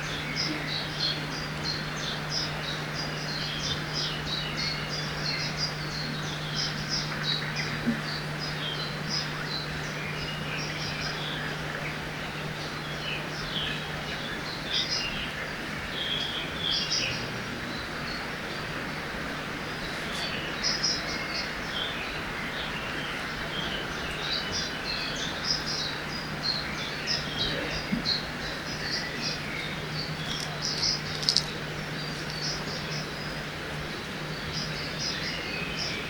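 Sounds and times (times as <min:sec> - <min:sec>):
faint low hum: 0:00.0 - 0:36.0
river rushing: 0:00.0 - 0:36.0
small birds chirping: 0:00.0 - 0:36.0.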